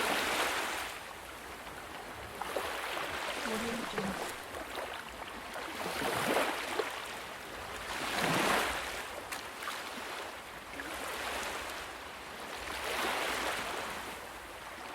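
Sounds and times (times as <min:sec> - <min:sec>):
ocean waves washing ashore: 0:00.0 - 0:14.9.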